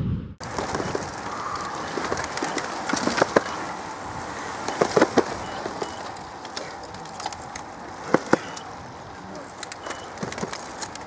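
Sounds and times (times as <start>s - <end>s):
outdoor noise rush: 0.0s - 11.0s
sharp bicycle clicks: 0.4s - 11.0s.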